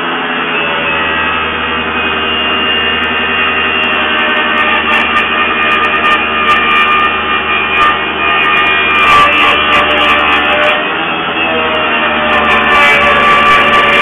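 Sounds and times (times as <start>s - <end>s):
power tool cutting timber: 0.0s - 14.0s.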